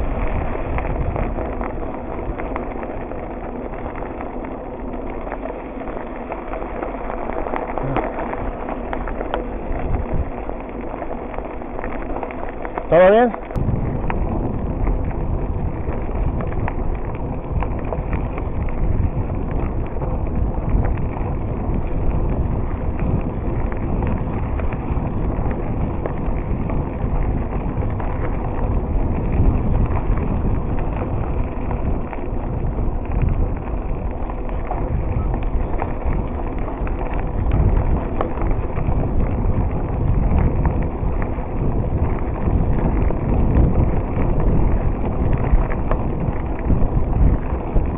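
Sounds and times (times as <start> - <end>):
bicycle rolling and rattling: 0.0 - 47.9
wind buffeting microphone: 0.0 - 47.9.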